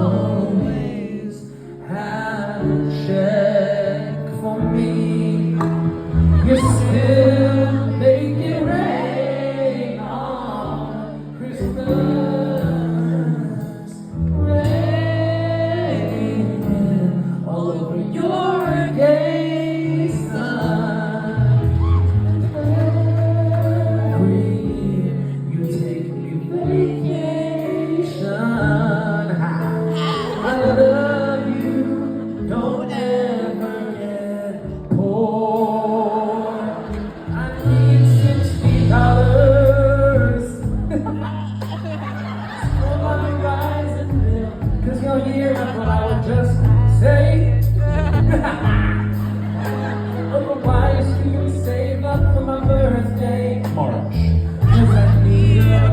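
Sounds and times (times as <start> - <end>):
man singing: 0.0 - 55.9.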